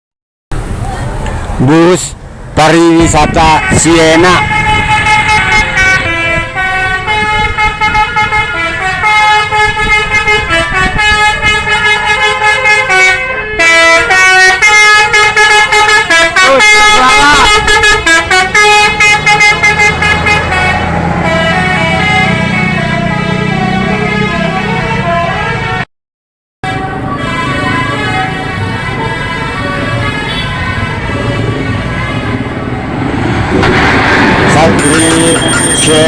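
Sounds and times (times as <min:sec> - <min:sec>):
bus musical horn playing tune: 0:03.0 - 0:25.9, 0:26.6 - 0:32.8.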